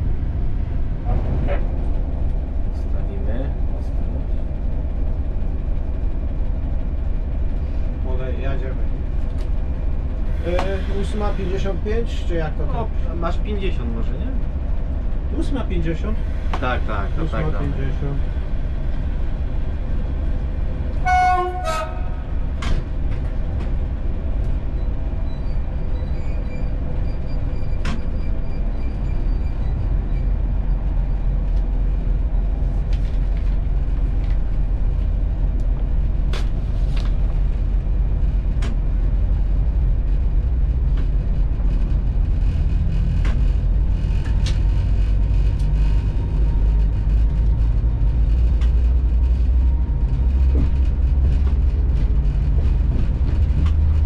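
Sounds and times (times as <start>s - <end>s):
locomotive rumble: 0.0s - 54.0s.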